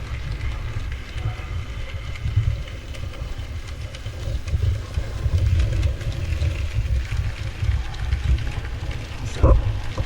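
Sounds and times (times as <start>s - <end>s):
model train rumbling: 0.0s - 10.0s.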